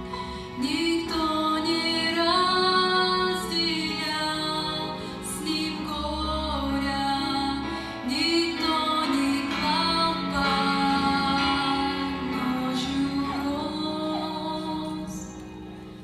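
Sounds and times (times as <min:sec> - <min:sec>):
person singing: 0:00.0 - 0:15.7.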